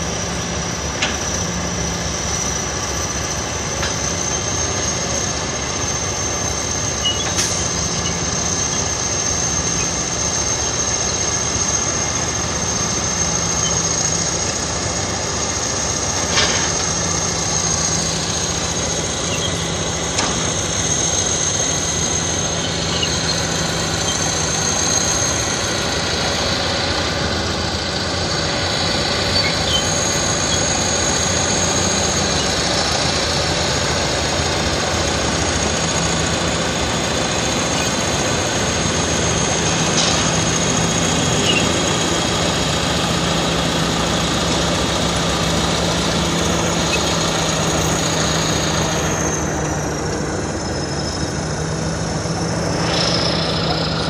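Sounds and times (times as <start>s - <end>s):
heavy diesel machinery engines: 0.0s - 54.0s.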